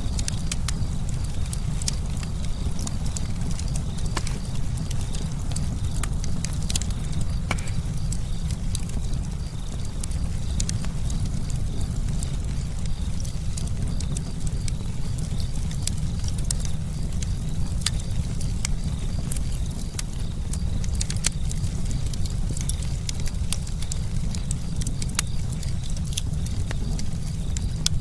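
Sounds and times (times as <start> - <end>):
campfire crackling and popping: 0.0 - 28.0
steady low rumble: 0.0 - 28.0.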